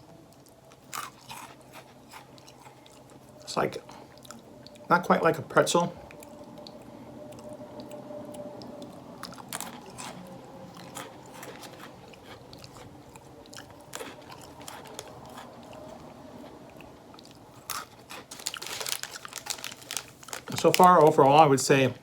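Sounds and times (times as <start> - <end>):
person chewing crunchy snacks: 0.0 - 4.9, 6.0 - 21.0.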